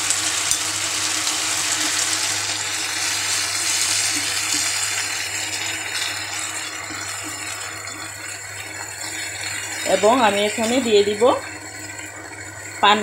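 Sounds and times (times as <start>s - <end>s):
vegetables sizzling in hot pan: 0.0s - 13.0s.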